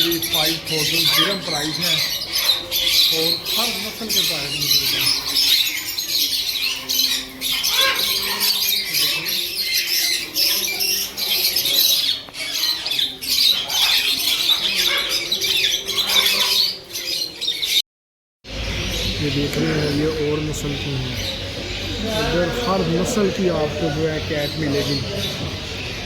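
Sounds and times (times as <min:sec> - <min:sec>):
caged birds squawking and chirping: 0:00.0 - 0:17.8, 0:18.4 - 0:26.0.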